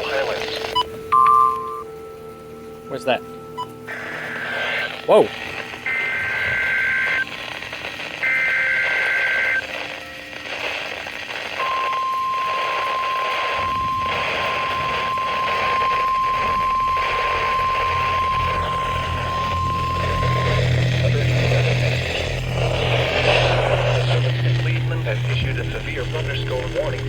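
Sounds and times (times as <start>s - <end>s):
steady warning alarm tone: 0.0s - 27.0s
two-tone digital data bursts: 2.9s - 27.0s.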